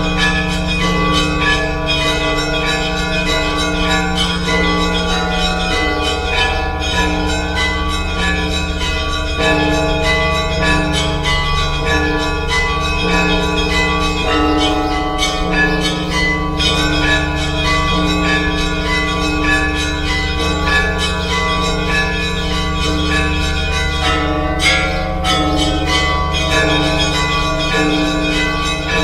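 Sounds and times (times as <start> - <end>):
deep bells humming: 0.0 - 29.0
small church bells pealing: 0.0 - 29.0.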